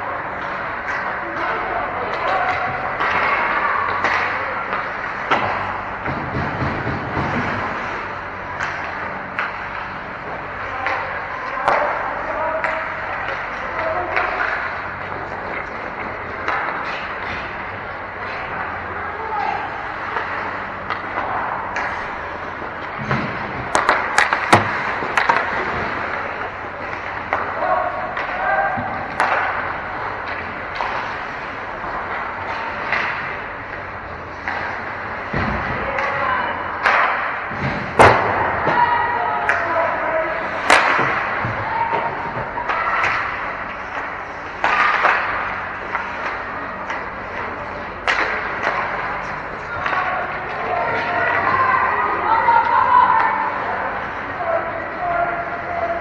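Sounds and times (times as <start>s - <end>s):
skates scraping on ice: 0.1s - 56.0s
hockey sticks clacking on puck: 0.2s - 56.0s.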